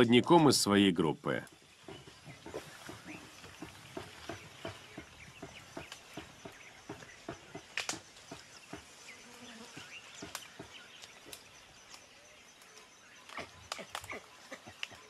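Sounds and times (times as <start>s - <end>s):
rustling and snapping of vegetation: 1.5s - 9.2s, 9.8s - 15.0s.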